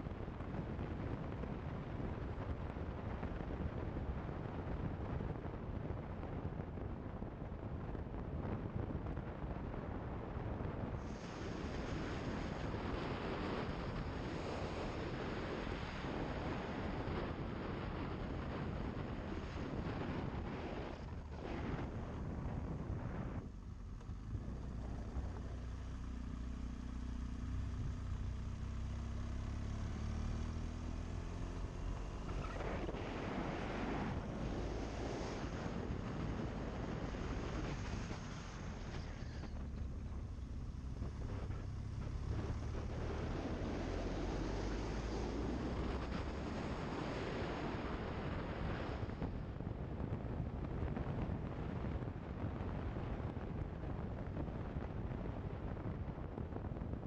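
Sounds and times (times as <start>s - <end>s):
wind rushing over microphone: 0.0s - 57.0s
motorcycle engine humming: 10.4s - 57.0s.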